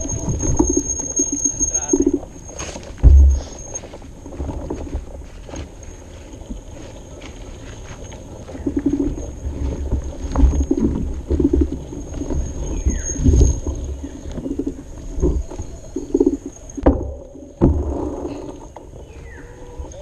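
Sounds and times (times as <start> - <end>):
bicycle knocks and rattles: 0.0 - 5.7, 7.9 - 19.0
wind rumble on microphone: 0.0 - 20.0.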